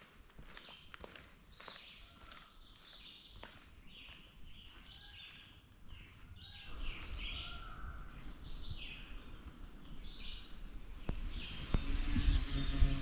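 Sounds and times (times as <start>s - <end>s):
songbirds singing: 0.6s - 13.0s.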